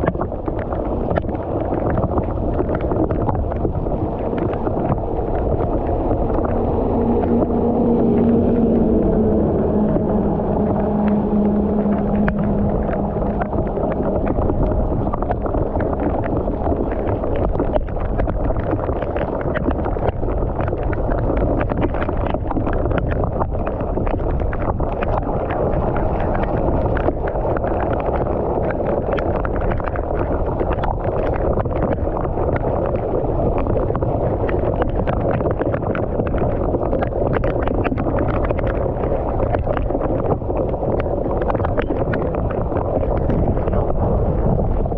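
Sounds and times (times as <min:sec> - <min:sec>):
fast-flowing water rushing: 0:00.0 - 0:44.9
small water splashes: 0:00.0 - 0:44.9.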